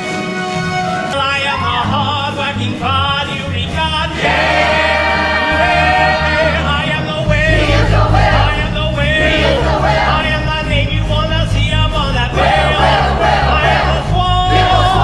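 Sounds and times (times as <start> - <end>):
band accompaniment with pulsing bass: 0.0 - 15.0.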